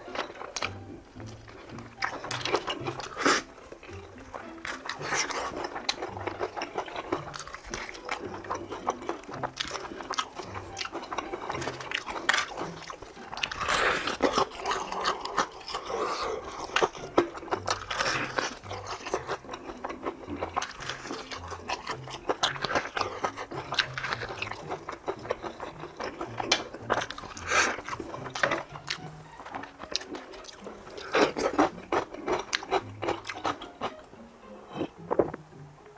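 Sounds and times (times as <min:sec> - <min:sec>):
crunching and chewing fried chicken: 0:00.0 - 0:35.5.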